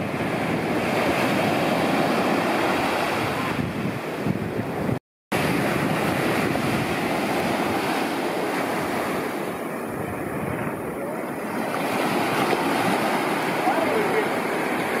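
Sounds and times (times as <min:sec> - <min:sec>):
small waves breaking on shore: 0:00.0 - 0:15.0.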